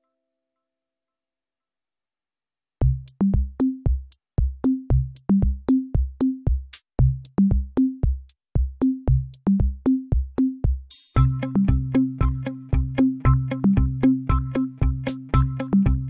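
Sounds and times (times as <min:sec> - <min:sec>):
bouncing bass line: 0:02.8 - 0:16.0
programmed electronic beat: 0:02.8 - 0:16.0.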